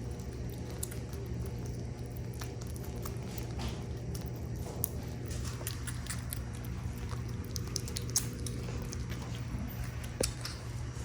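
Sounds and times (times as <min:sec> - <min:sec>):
kittens chewing: 0:00.0 - 0:11.0
steady low hum: 0:00.0 - 0:11.0.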